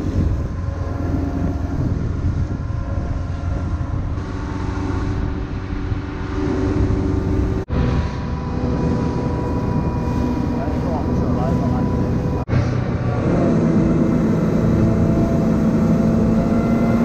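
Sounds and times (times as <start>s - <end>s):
motorboat engine drone: 0.0s - 17.0s
wind: 0.0s - 17.0s.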